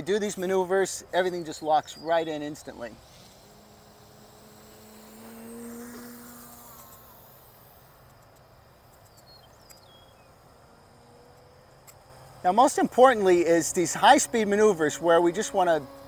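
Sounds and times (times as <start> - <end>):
model plane motor droning: 0.0 - 16.0.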